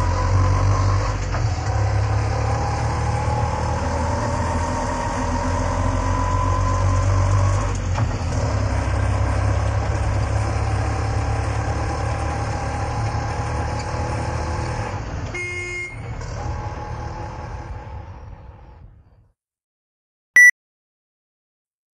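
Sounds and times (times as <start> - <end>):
auto rickshaw engine running: 0.0 - 19.1.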